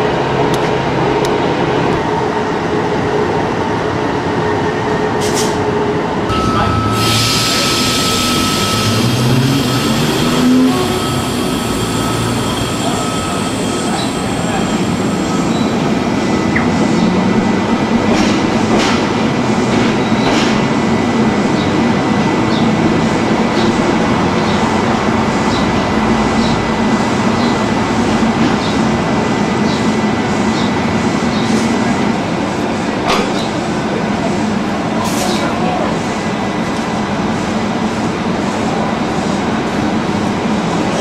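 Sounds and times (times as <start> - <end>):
railcar engine and wheels rumbling: 0.0 - 41.0.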